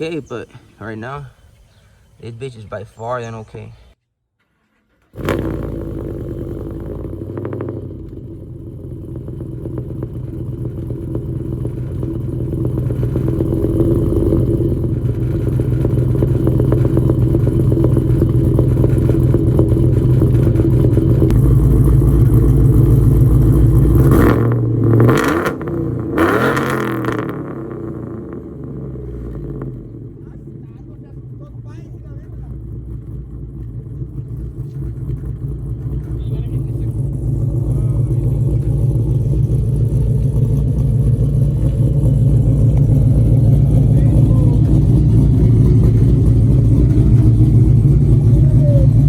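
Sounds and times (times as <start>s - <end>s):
truck engine running and revving: 5.1s - 49.0s.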